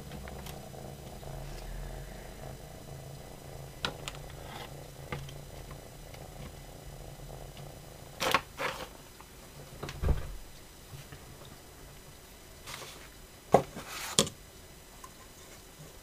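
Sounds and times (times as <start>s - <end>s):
cat purring: 0.0s - 14.1s.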